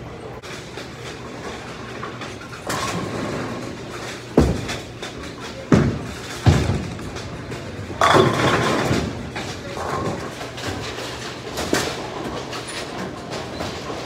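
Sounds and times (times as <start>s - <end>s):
bowling balls rolling: 0.5s - 14.0s.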